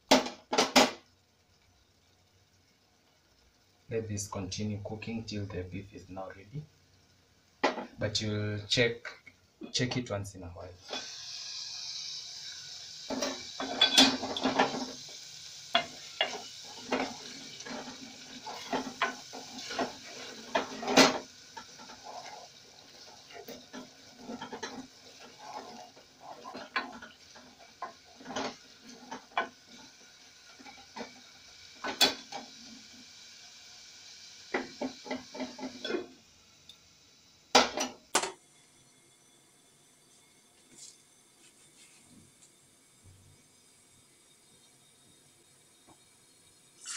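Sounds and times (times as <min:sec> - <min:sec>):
stew sizzling: 0:00.0 - 0:46.9.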